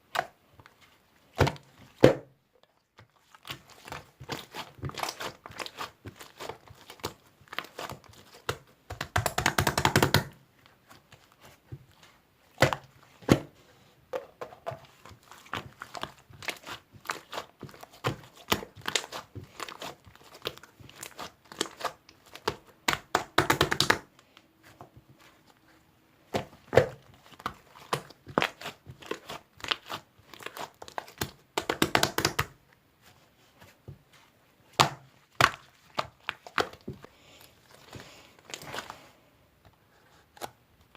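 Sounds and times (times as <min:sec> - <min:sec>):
crinkling and crunching handling: 0:00.0 - 0:09.1, 0:10.2 - 0:23.2, 0:24.0 - 0:40.9.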